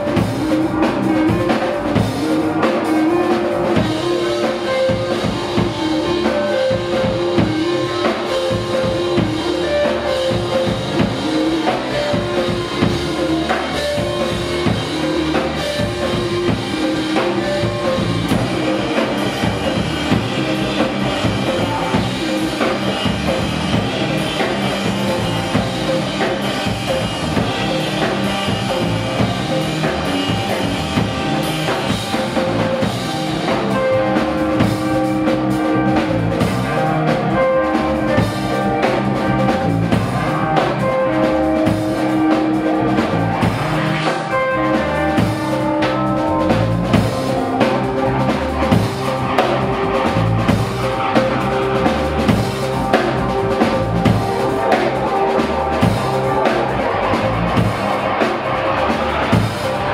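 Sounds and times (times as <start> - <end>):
bass: 0.0 - 59.9
drum kit beat: 0.0 - 59.9
electric guitars: 0.0 - 59.9.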